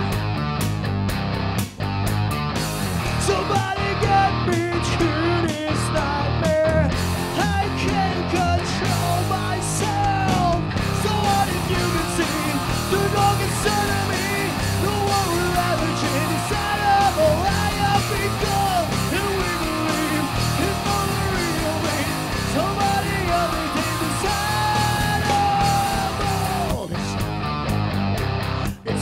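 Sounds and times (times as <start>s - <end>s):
hard rock band playing: 0.0s - 29.0s
man singing and yelling: 3.0s - 27.4s, 28.8s - 29.0s.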